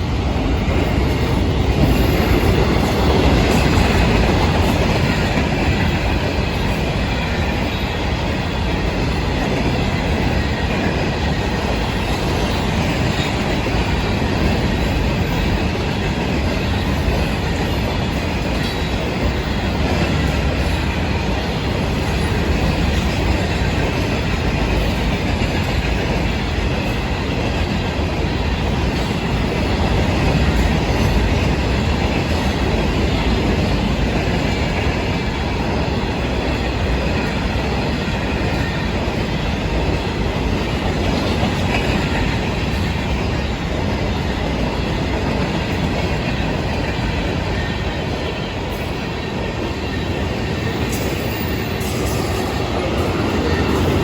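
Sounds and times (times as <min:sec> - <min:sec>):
steel wheels on rails: 0:00.0 - 0:54.0.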